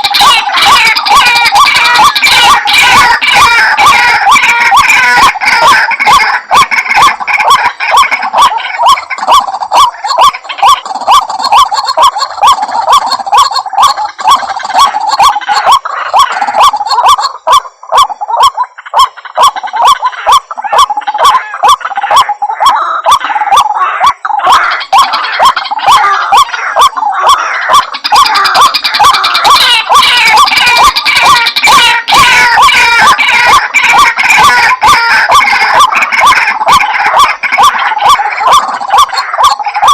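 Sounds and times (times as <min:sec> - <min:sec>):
bird harsh repeated call: 0:00.0 - 0:39.9.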